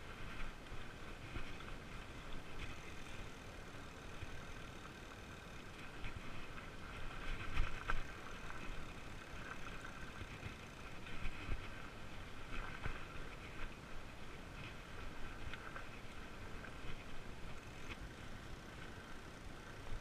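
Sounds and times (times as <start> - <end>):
bike tyres rolling on dirt: 0.0 - 20.0.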